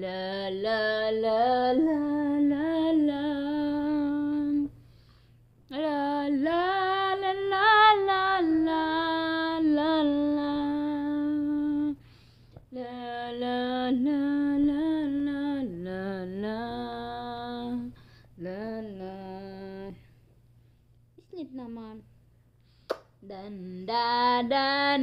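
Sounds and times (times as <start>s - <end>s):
woman singing lullaby: 0.0s - 4.7s, 5.7s - 12.0s, 12.7s - 20.1s, 23.2s - 25.0s.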